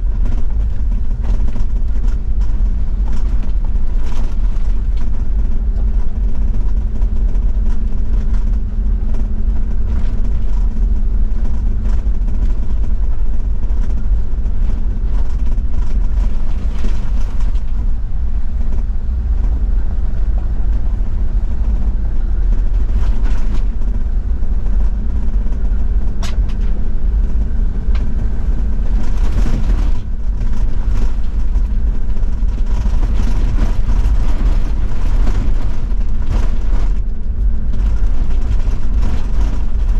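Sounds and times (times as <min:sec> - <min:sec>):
diesel engine running: 0:00.0 - 0:39.9
tyre and road noise: 0:00.0 - 0:39.9.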